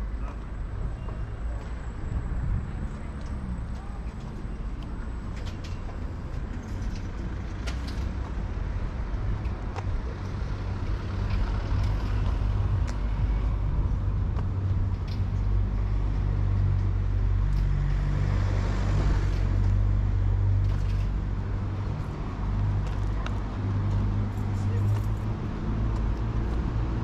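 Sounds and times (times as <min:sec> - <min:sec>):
city street traffic: 0:00.0 - 0:27.0
vehicle engine humming: 0:00.0 - 0:27.0.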